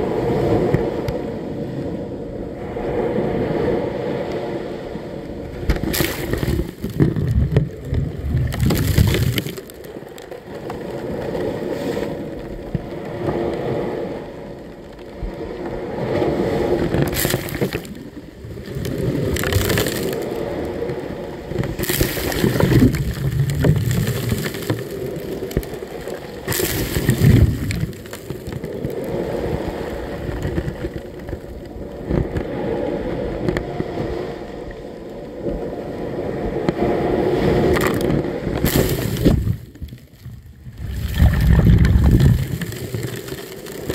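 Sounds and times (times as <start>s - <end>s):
wave splashes: 0.0s - 43.9s
waves breaking on shore: 0.0s - 43.9s.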